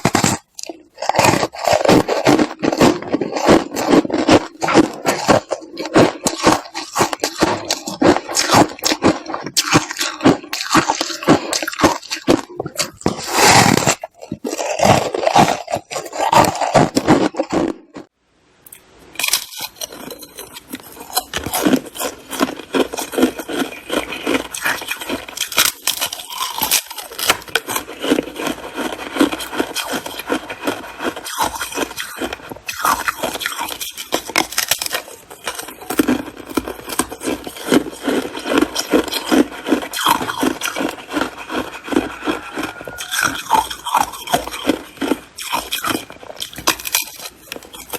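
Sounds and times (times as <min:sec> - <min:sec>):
ice being crunched and chewed: 0:00.0 - 0:18.1, 0:18.7 - 0:47.9.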